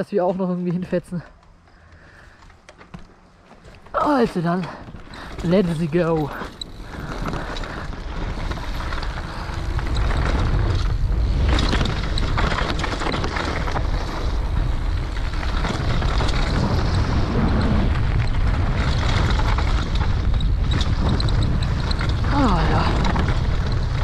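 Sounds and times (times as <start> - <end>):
bike rattling over bumps: 0.0 - 24.0
tyres rolling on dirt: 0.0 - 24.0
wind buffeting microphone: 3.7 - 24.0.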